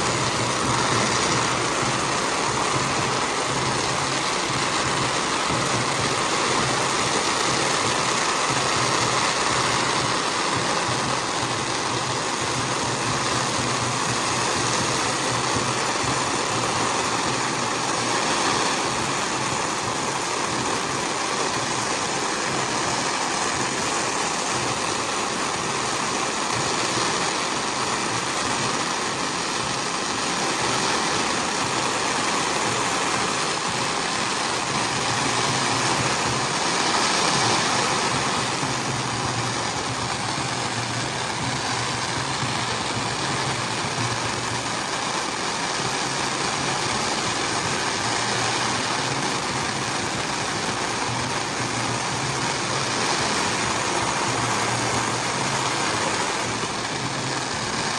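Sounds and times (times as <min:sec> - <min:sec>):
outdoor noise: 0:00.0 - 0:57.9.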